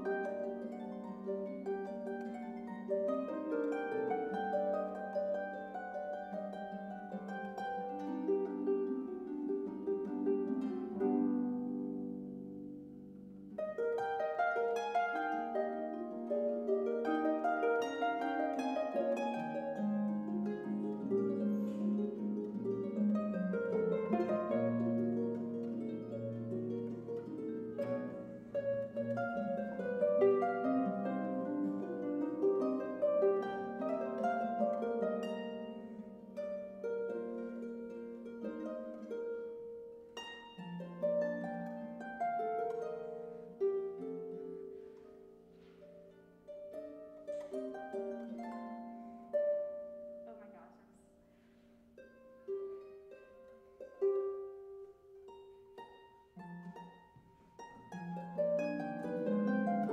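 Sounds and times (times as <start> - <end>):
harp playing plucked notes: 0.0 - 59.9.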